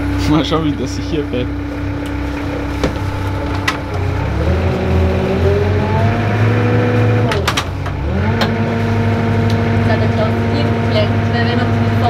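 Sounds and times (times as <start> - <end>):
boat engine revving: 0.0 - 12.0.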